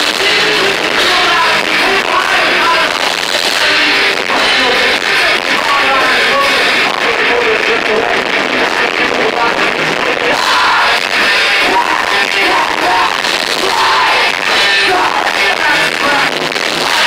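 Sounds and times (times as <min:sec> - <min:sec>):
heavy metal band playing live: 0:00.0 - 0:17.0
vocalist singing: 0:00.0 - 0:17.0.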